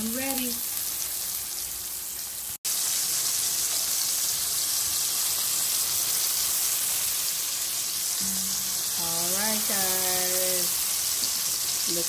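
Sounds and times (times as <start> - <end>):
steak sizzling in skillet: 0.0 - 12.0.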